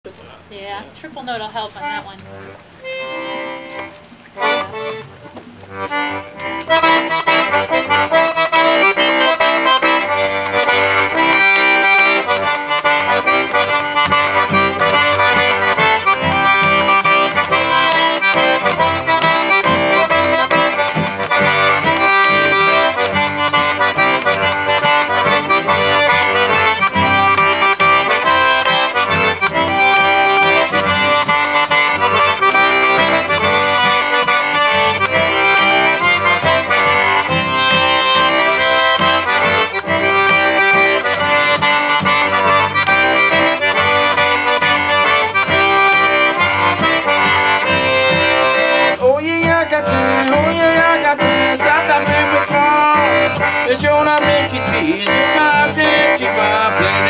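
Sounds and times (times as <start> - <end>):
acoustic guitar accompaniment: 0.1 - 57.0
button accordion dance tune: 0.5 - 57.0.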